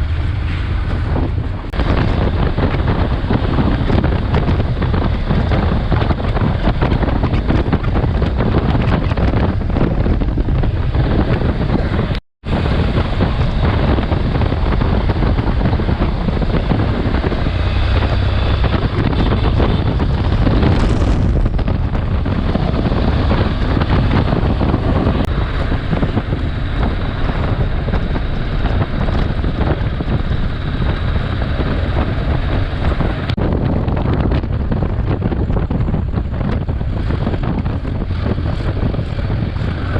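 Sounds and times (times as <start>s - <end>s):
motorcycle engine drone: 0.0s - 39.9s
road noise: 0.0s - 39.9s
wind buffeting microphone: 0.0s - 39.9s.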